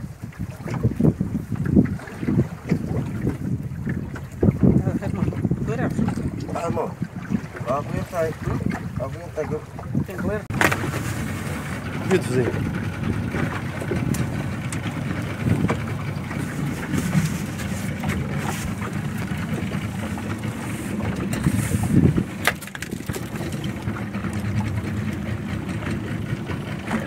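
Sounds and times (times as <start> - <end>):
water against boat hull: 0.0 - 27.0
wind rumble on microphone: 0.0 - 27.0
knocks on boat: 1.6 - 27.0.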